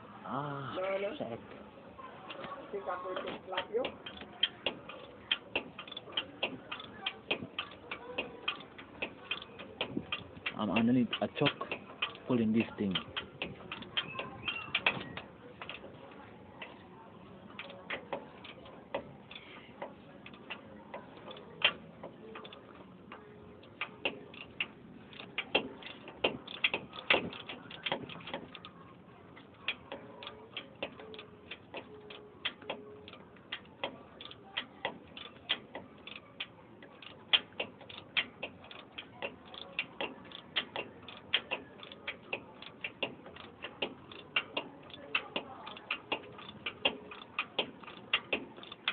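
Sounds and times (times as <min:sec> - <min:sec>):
metallic clicks and taps of tools: 0:03.2 - 0:16.0, 0:17.5 - 0:48.9.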